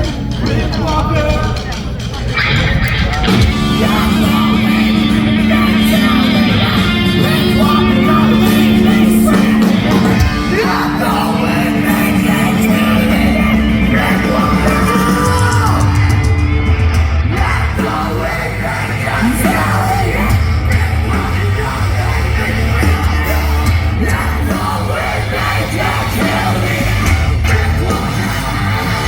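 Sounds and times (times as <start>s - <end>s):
bass: 0.0s - 29.0s
distorted guitars: 0.0s - 29.0s
drums: 0.0s - 29.0s
screamed lead vocals: 2.4s - 29.0s.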